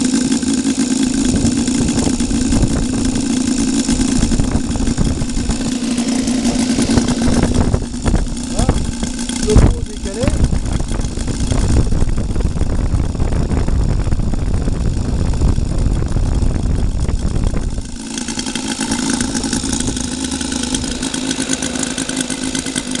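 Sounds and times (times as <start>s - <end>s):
model aircraft engine running: 0.0s - 23.0s.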